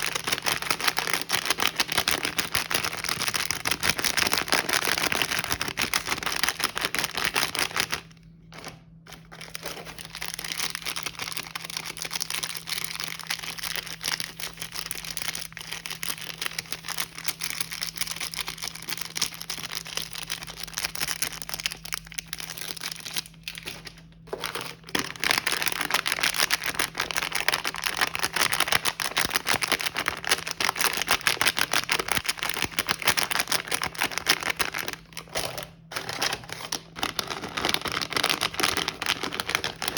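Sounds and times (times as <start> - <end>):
plastic packaging crinkling: 0.0 - 39.9.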